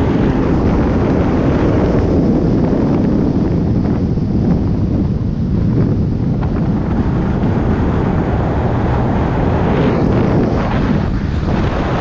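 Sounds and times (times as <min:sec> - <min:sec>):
motorcycle engine drone: 0:00.0 - 0:12.0
road noise: 0:00.0 - 0:12.0
wind buffeting microphone: 0:00.0 - 0:12.0.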